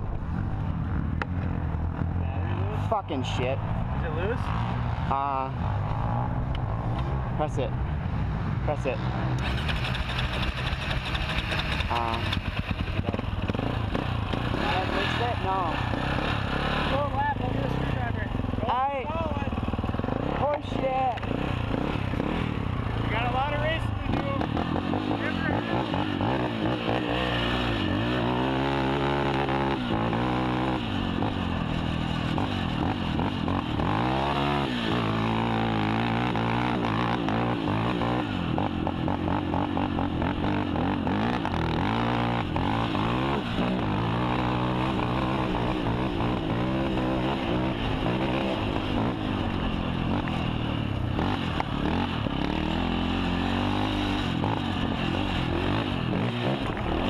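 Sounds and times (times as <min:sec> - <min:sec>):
quad engine revving: 0:09.3 - 0:57.0.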